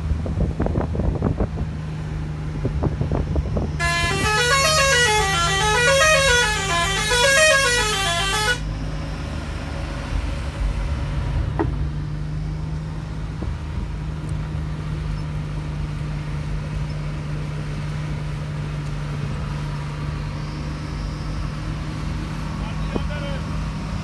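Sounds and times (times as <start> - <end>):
bus engine humming: 0.0 - 24.0
road noise: 0.0 - 24.0.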